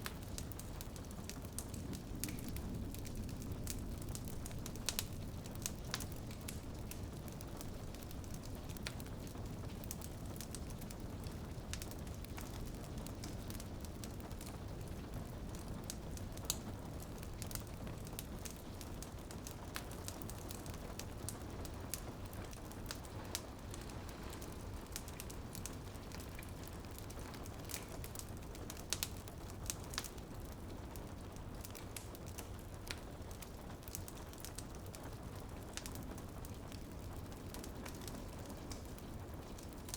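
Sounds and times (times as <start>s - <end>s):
rain pattering on a window: 0.0s - 39.9s
wood fire crackling and popping: 0.0s - 39.9s.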